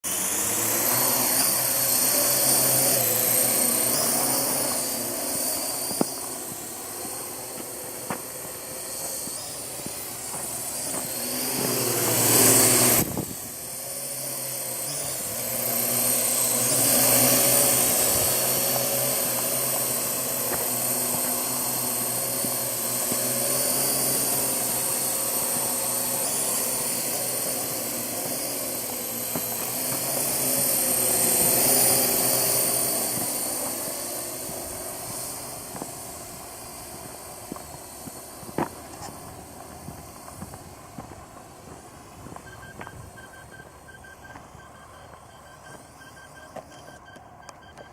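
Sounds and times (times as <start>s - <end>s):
drone rotors whirring: 0.0s - 47.9s.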